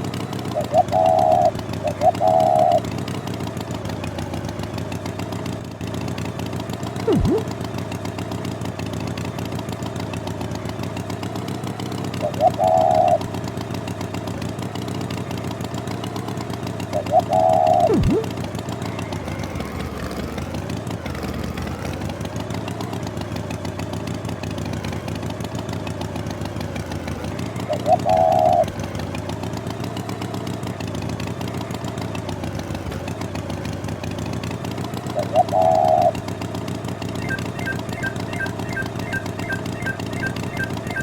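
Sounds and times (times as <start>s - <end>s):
cartoon tractor engine idling: 0.0s - 41.0s.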